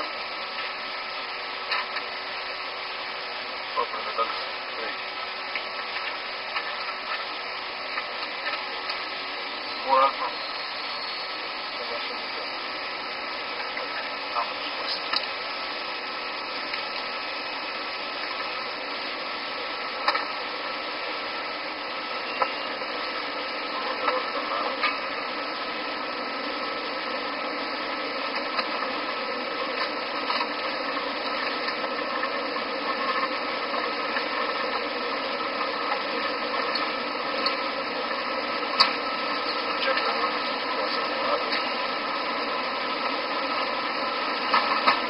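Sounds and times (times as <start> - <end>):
airliner engine and airflow rush: 0.0 - 45.0.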